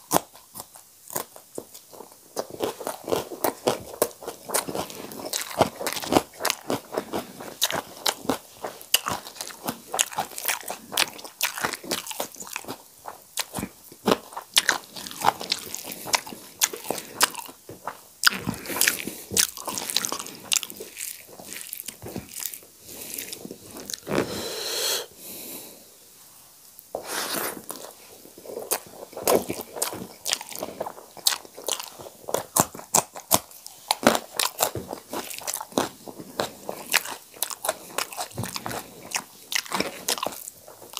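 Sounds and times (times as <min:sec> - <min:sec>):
wet chewing and lip-smacking: 0:00.0 - 0:24.0, 0:27.6 - 0:40.9.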